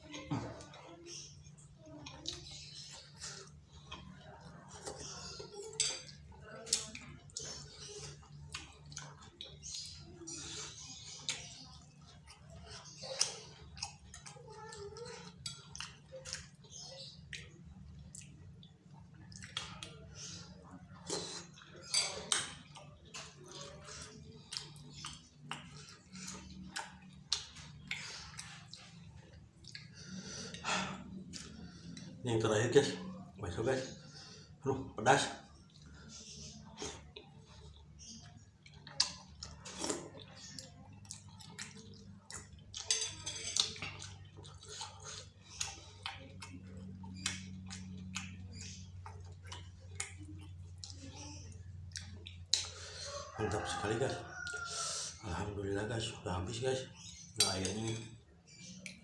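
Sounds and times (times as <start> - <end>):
wet eating clicks and chewing: 0.6 - 32.2, 35.1 - 54.7, 56.9 - 59.0.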